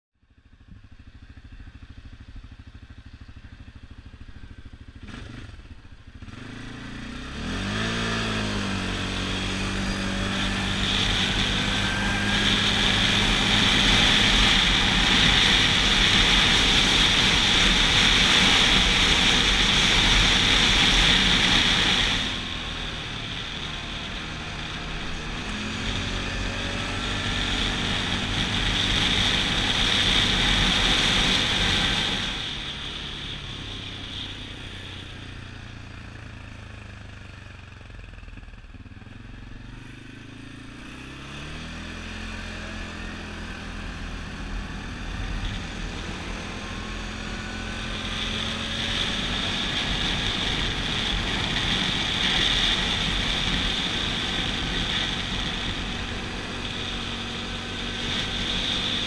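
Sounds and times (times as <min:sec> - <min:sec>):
wind and road noise: 0:00.3 - 0:59.0
atv engine revving: 0:01.3 - 0:59.0.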